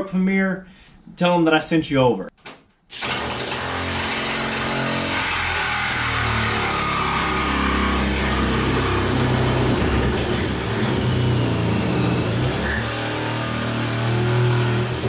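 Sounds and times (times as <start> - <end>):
air saw cutting sheet steel: 2.9 - 15.0.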